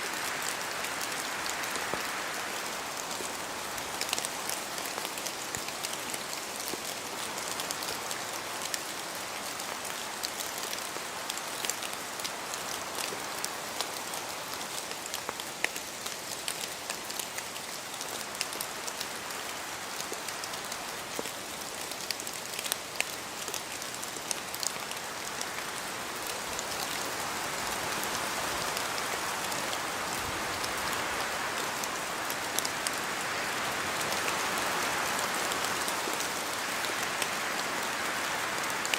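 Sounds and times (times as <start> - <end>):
rain hissing in forest: 0.0 - 38.9.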